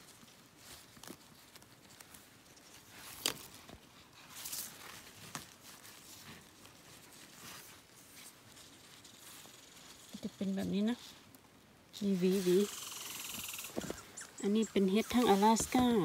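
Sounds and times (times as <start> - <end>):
footsteps through undergrowth: 0.0 - 11.3, 12.0 - 16.0
soft crackles: 0.0 - 16.0.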